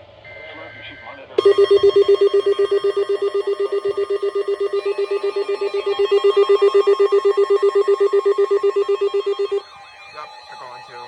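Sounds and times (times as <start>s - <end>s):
rapid alarm beeping: 1.4s - 11.0s.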